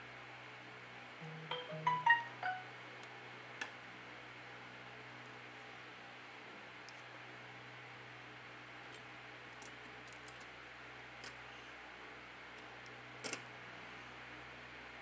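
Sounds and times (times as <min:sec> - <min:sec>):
low hiss and hum: 0:00.0 - 0:15.0.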